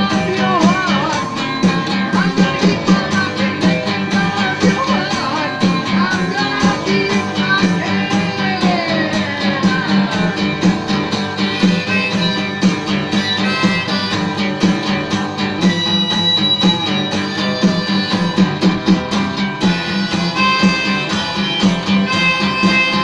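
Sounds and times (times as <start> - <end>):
upbeat guitar-led music: 0.0 - 23.0.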